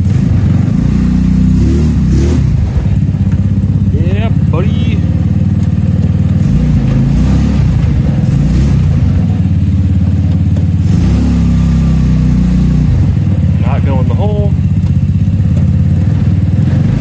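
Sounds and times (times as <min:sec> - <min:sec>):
go-kart engine running: 0:00.0 - 0:17.0.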